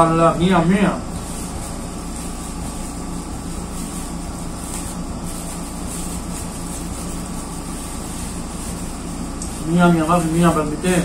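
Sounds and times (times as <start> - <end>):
mechanical hum and air rush: 0.0 - 11.0
plastic bag crinkling: 1.1 - 11.0.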